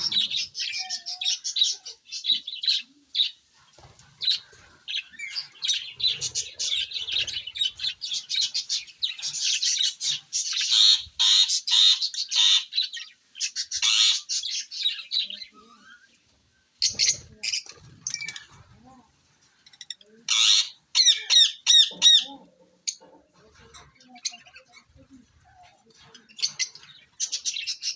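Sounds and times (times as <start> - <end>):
parrots chirping and squawking: 0.0 - 18.8, 19.4 - 27.9.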